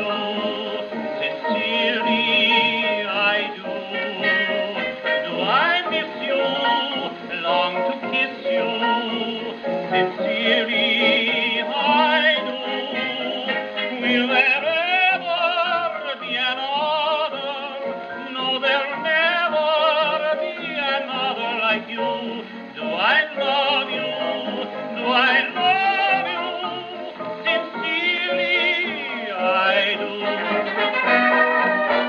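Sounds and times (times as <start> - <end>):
dance orchestra record on phonograph: 0.0 - 32.0.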